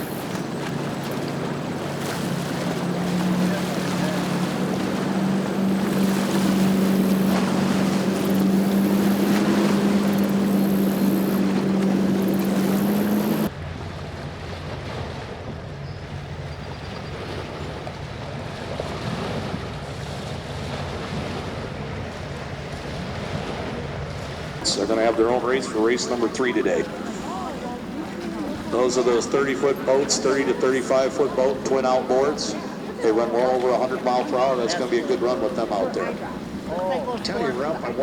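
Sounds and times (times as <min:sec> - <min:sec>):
motorboat engine running: 0:00.0 - 0:38.0
water noise: 0:00.0 - 0:38.0
wind: 0:00.0 - 0:38.0.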